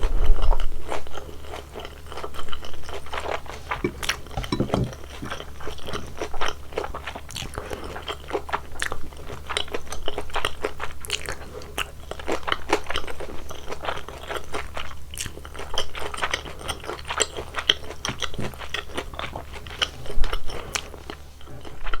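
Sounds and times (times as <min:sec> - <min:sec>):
crunchy chewing: 0:00.0 - 0:22.0
low steady hum: 0:00.0 - 0:22.0.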